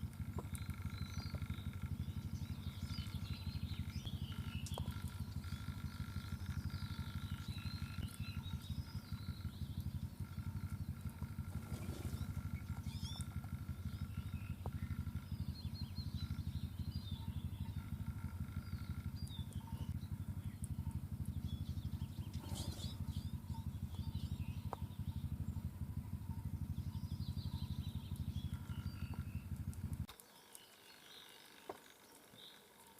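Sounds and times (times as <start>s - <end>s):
pulsing low hum: 0.0s - 30.2s
small birds chirping: 0.0s - 32.9s.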